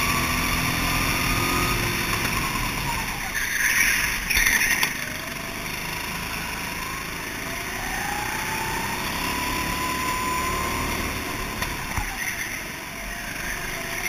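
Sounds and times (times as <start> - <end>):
go-kart engine accelerating: 0.0 - 14.0.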